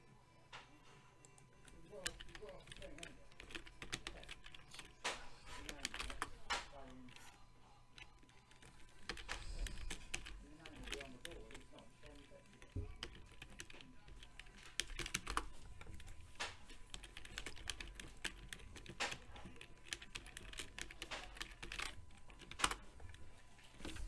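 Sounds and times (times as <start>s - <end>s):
computer keyboard typing: 1.3s - 7.3s, 7.9s - 24.0s.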